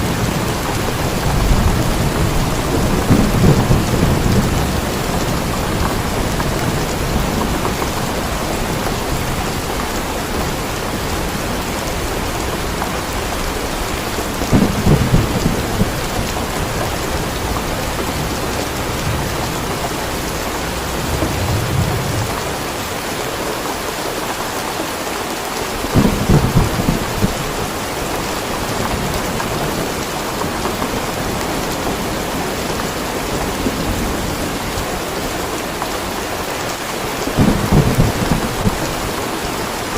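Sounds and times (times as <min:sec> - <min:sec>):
thunder rumbling: 0:00.0 - 0:23.7, 0:25.8 - 0:36.4, 0:37.2 - 0:39.9
heavy rain falling: 0:00.0 - 0:39.9.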